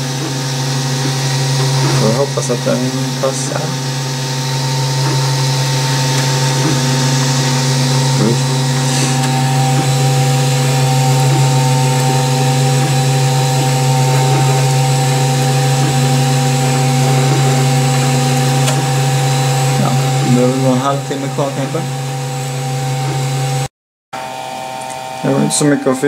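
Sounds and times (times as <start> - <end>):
printer machine hum: 0.0 - 26.0.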